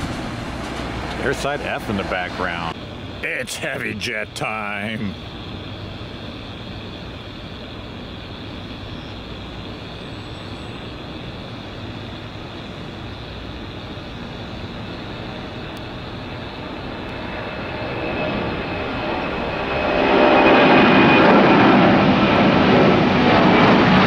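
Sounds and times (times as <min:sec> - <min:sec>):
jet taking off: 0:00.0 - 0:24.0.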